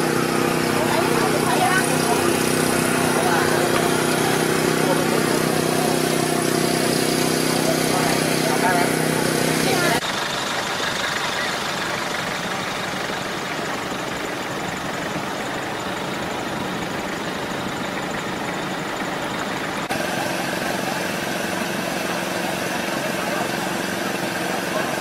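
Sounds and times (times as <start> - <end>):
idling vehicle engines: 0.0 - 25.0
road traffic: 0.0 - 25.0
steady engine hum: 0.0 - 25.0.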